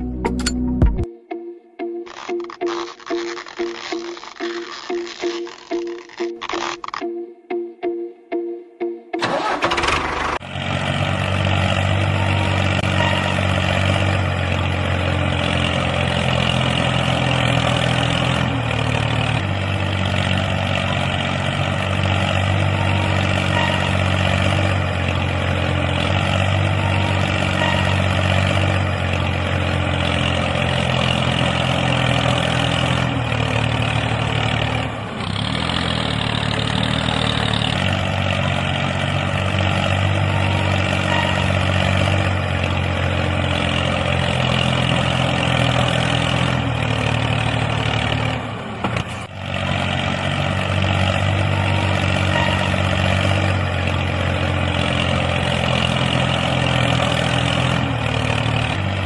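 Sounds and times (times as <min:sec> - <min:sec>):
engine running: 0:01.9 - 0:59.0.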